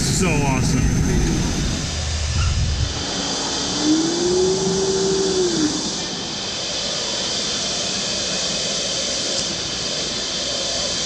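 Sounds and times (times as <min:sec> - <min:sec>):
machinery hum and hiss: 0:00.0 - 0:11.0
motor whine: 0:00.0 - 0:11.0.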